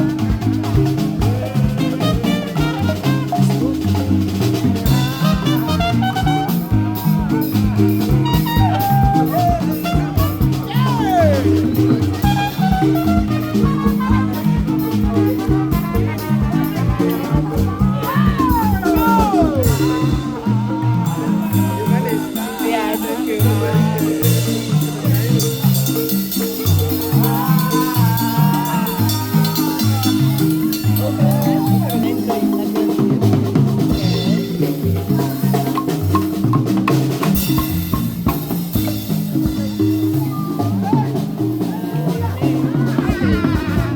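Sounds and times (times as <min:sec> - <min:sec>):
upbeat latin jazz music: 0:00.0 - 0:43.9.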